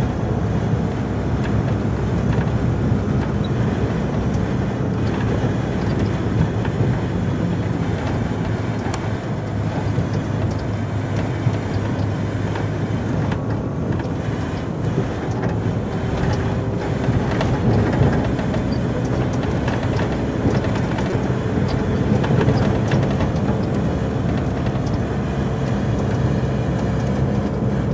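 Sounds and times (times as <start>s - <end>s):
truck diesel engine droning: 0.0s - 27.9s
tyres rumbling on snowy road: 0.0s - 27.9s.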